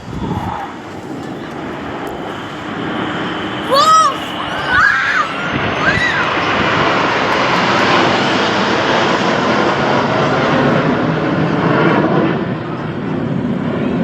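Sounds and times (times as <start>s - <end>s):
aircraft flying past: 0.0s - 14.0s.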